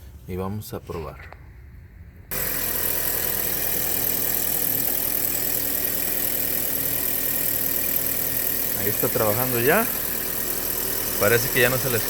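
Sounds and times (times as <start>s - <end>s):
car engine idling: 2.3s - 12.0s.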